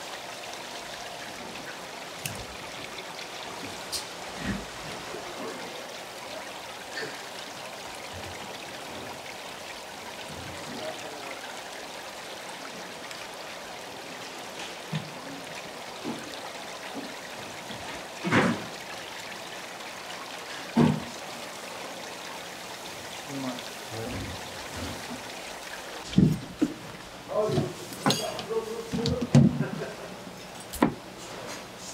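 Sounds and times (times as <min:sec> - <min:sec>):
water splashing into tank: 0:00.0 - 0:29.9.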